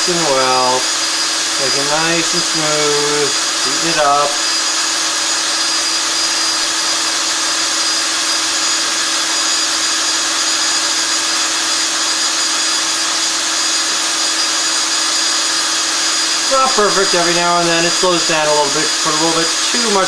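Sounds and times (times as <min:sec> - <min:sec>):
electric drill running: 0:00.0 - 0:20.0.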